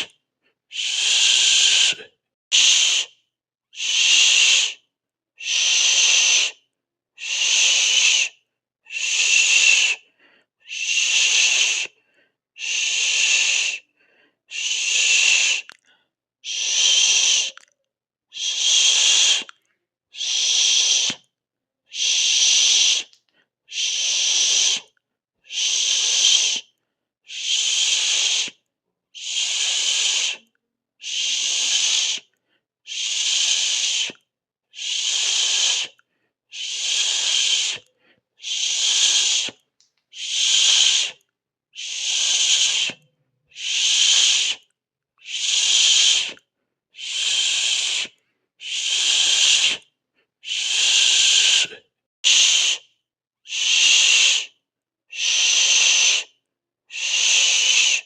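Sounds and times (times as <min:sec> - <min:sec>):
mouth hissing shh: 0:00.7 - 0:03.2, 0:03.8 - 0:04.8, 0:05.4 - 0:06.6, 0:07.2 - 0:10.0, 0:10.6 - 0:12.0, 0:12.6 - 0:13.9, 0:14.5 - 0:15.7, 0:16.4 - 0:17.6, 0:18.3 - 0:21.2, 0:21.9 - 0:26.7, 0:27.3 - 0:28.6, 0:29.2 - 0:32.3, 0:32.9 - 0:52.9, 0:53.5 - 0:58.0.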